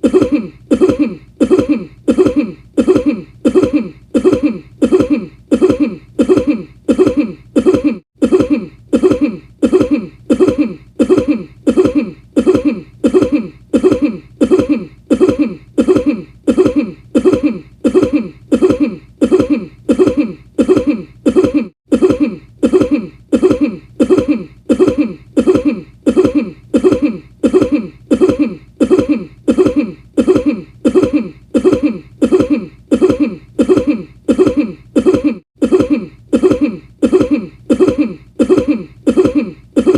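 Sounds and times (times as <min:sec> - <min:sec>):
person coughing: 0:00.0 - 0:39.9.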